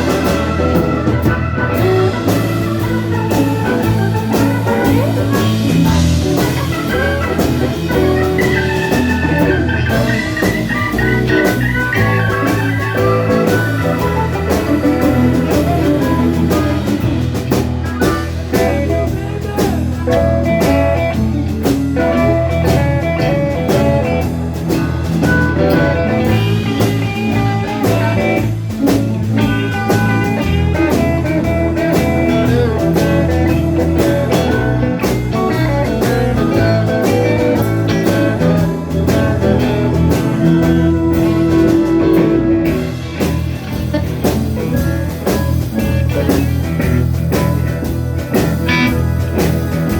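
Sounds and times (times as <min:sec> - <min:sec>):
bass guitar: 0:00.0 - 0:49.9
drum kit: 0:00.0 - 0:49.9
electric guitar lead: 0:00.0 - 0:49.9.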